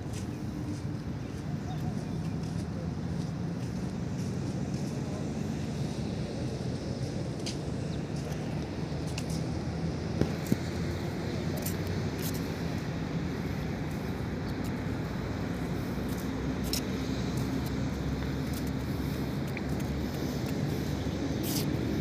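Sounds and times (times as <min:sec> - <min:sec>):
distant engines humming: 0:00.0 - 0:22.0.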